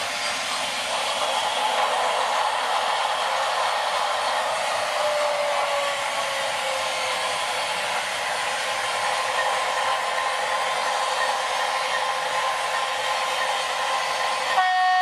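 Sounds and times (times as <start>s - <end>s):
model locomotive fan-like hiss: 0.0s - 14.7s.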